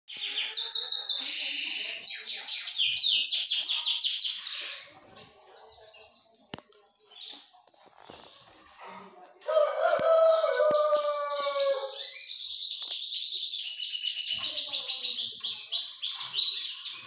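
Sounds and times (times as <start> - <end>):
canaries singing trills: 0.1 - 17.0.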